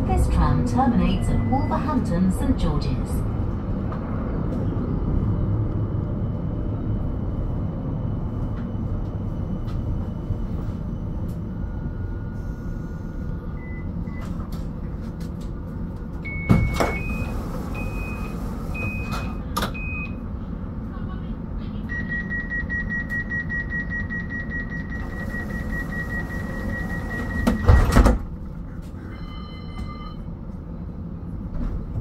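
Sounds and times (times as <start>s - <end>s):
tram rumbling on rails: 0.0s - 22.4s, 24.8s - 32.0s.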